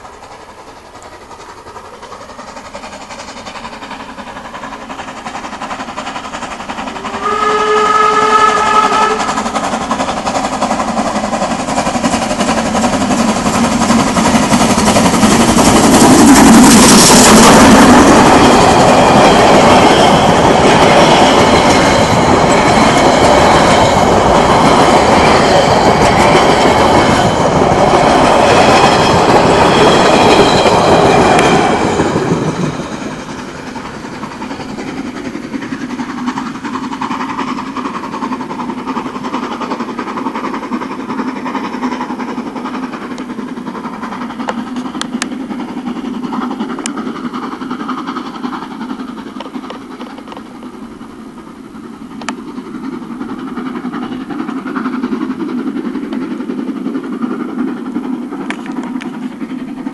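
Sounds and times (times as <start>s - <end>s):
train wheels rattling on rails: 0.0s - 59.9s.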